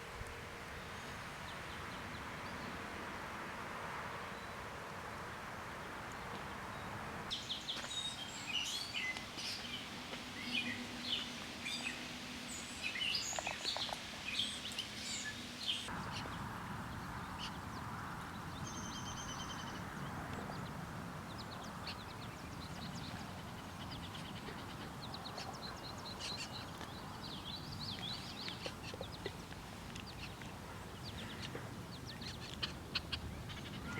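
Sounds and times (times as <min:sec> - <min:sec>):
birds chirping: 0:05.7 - 0:33.9.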